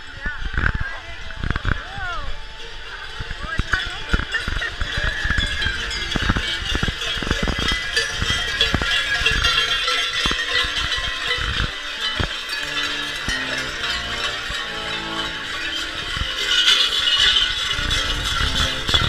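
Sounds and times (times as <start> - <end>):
held organ notes: 0.0 - 19.0
large cowbells jangling: 0.0 - 19.0.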